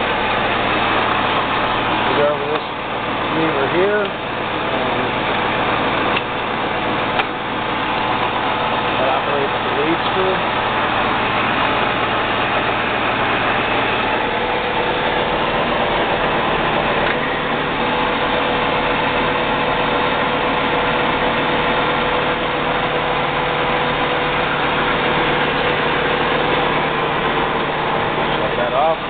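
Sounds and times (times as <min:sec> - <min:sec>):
lathe humming and whirring: 0:00.0 - 0:29.0.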